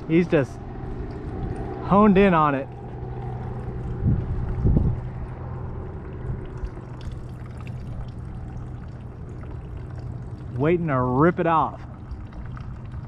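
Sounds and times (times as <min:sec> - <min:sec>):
low wind rumble: 0:00.0 - 0:11.1
steady low hum: 0:00.0 - 0:13.0.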